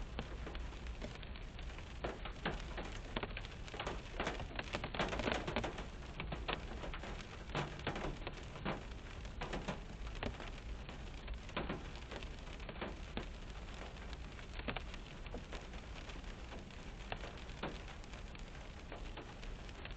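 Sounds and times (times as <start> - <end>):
rain on car roof: 0.0 - 19.9.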